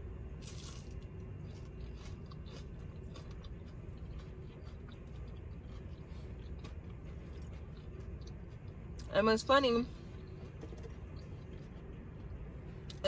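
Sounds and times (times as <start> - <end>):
mouth chewing crispy food: 0.4 - 9.2, 10.1 - 13.0.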